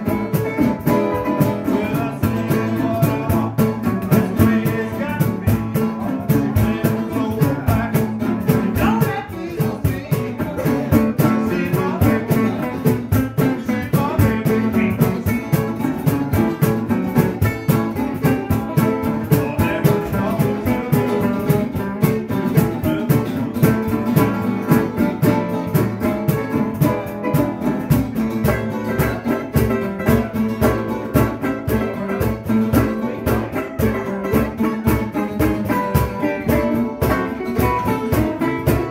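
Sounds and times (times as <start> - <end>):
cajon beat: 0.0 - 38.9
plucked string instruments: 0.0 - 38.9
resonator guitar: 0.0 - 38.9.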